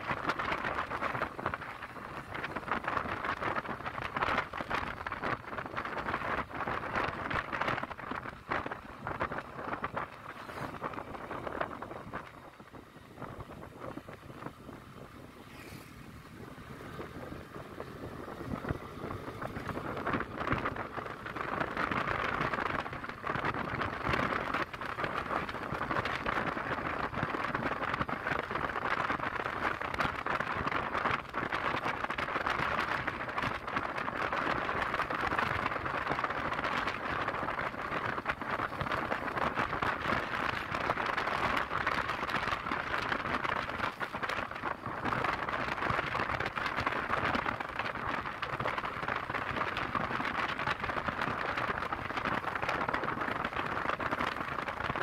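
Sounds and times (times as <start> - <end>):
wind: 0.0 - 55.0.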